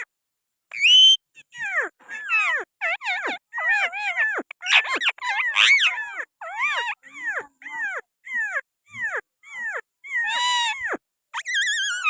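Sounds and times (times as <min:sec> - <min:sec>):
parrot calling: 0:00.7 - 0:12.0.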